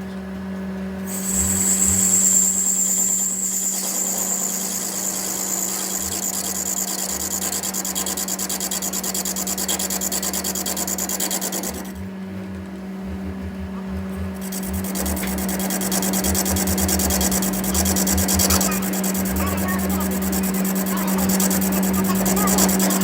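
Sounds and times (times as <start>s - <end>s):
power tool rattling and humming: 1.0s - 23.0s.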